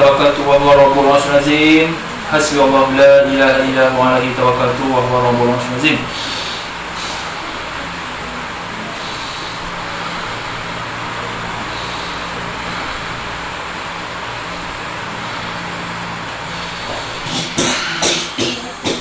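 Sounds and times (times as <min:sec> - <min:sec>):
background hum and hiss: 0:00.0 - 0:19.0.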